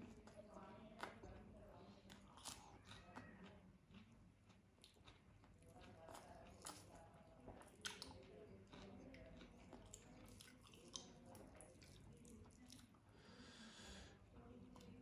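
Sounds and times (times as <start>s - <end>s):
person chewing food wetly: 0.0s - 13.6s.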